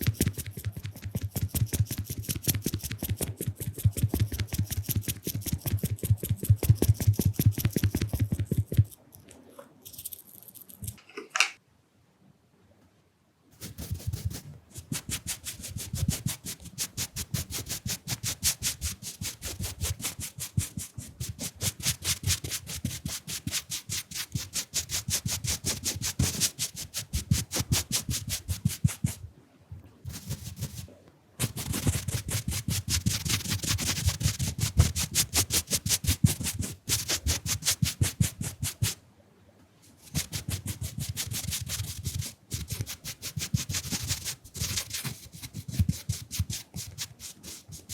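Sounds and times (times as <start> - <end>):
brush scratching microphone: 0.0 - 9.0, 13.6 - 29.2, 30.1 - 39.0, 40.0 - 47.9.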